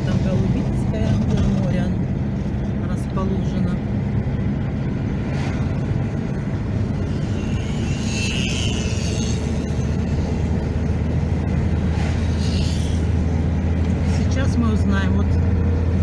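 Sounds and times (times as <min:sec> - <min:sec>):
car interior road rumble: 0:00.0 - 0:16.0.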